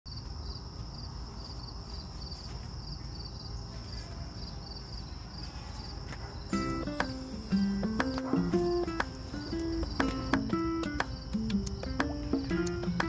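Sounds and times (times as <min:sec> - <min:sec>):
crickets chirping: 0:00.1 - 0:13.0
high insect trill: 0:00.1 - 0:13.0.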